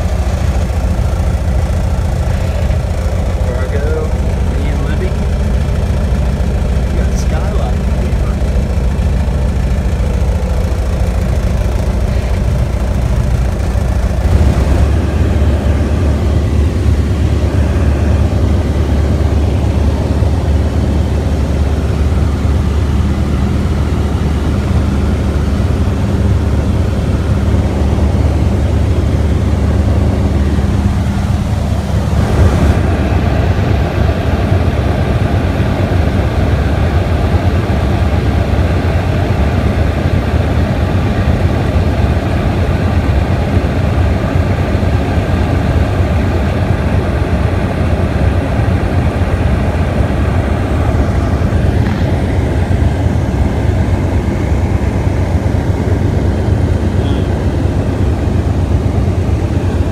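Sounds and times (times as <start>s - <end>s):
small plane engine droning: 0.0s - 59.9s.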